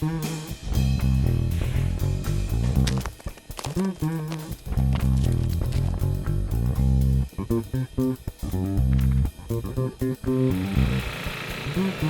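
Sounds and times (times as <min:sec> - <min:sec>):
song with guitar and bass: 0:00.0 - 0:12.0.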